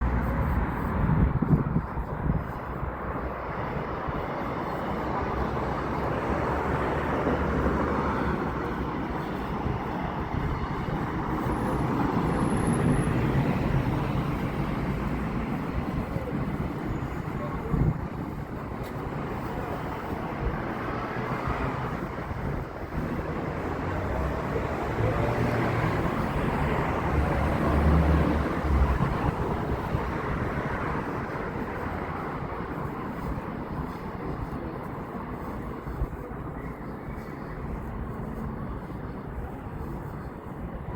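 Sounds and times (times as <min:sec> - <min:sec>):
passing vehicles: 0:00.0 - 0:40.9.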